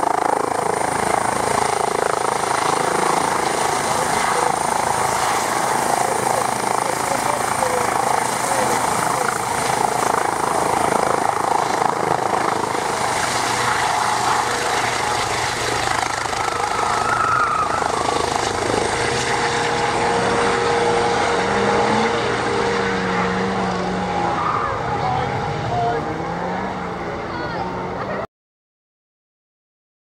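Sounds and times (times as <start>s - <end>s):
high turbine whine: 0.0s - 28.2s
helicopter rotor noise: 0.0s - 28.3s.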